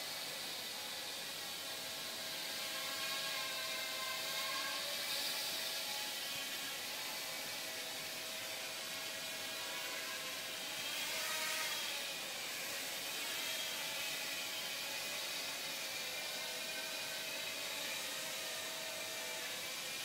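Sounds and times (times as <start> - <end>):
quadcopter motors whining: 0.1 - 20.0.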